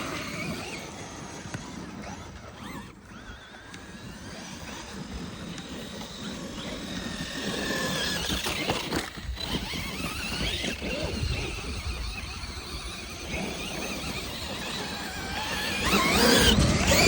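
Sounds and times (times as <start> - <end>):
electric motors whining: 0.0 - 17.0
tyres rumbling on dirt: 0.0 - 17.0.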